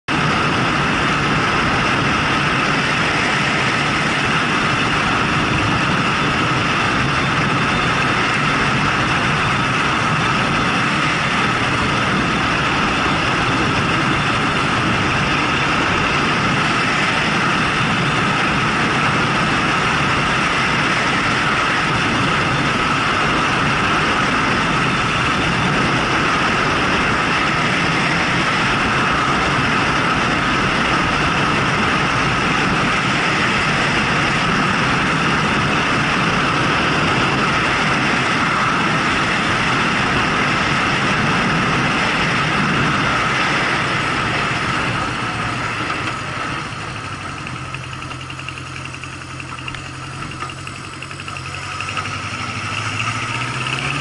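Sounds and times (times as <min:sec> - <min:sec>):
motorcycle engine drone: 0:00.0 - 0:54.0
wind and road noise: 0:00.0 - 0:54.0.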